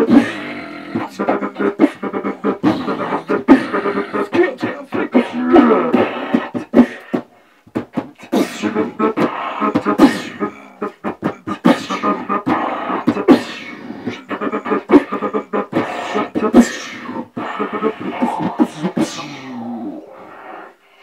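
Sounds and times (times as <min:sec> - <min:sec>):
hummed bass and vocal tones: 0:00.0 - 0:07.1, 0:07.8 - 0:20.4
beatboxing into microphones: 0:00.0 - 0:20.9.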